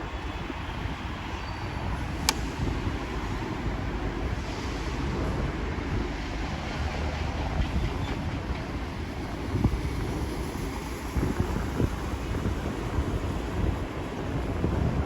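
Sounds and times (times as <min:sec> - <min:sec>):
road and traffic rumble: 0:00.0 - 0:15.0
wind buffeting microphone: 0:00.0 - 0:15.0.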